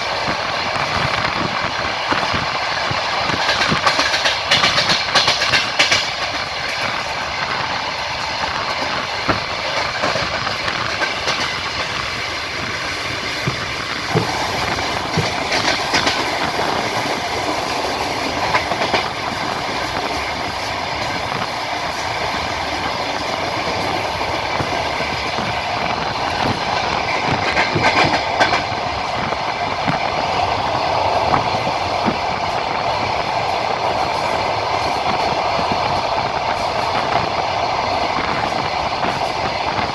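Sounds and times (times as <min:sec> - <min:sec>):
train rolling rumble: 0:00.0 - 0:39.9
wheels clacking over rail joints: 0:00.0 - 0:39.9.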